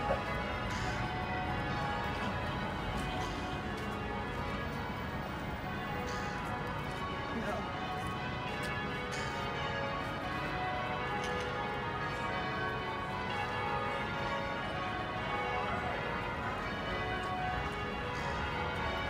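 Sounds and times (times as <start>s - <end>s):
church bells ringing: 0.0s - 19.0s
street noise: 0.0s - 19.0s.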